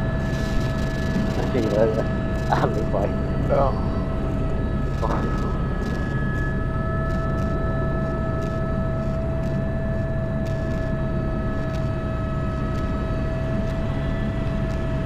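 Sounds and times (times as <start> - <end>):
helicopter engine and rotor drone: 0.0 - 15.0
high turbine whine: 0.0 - 15.0.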